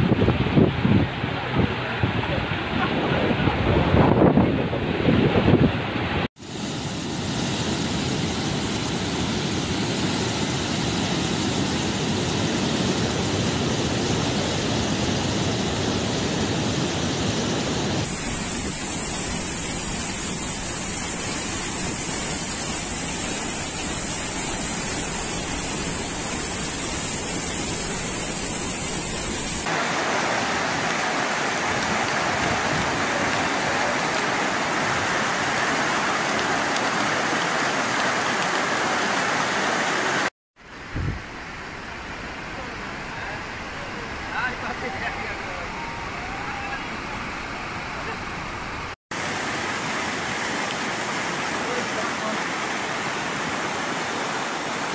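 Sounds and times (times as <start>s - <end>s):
turbulent floodwater rushing: 0.0s - 54.9s.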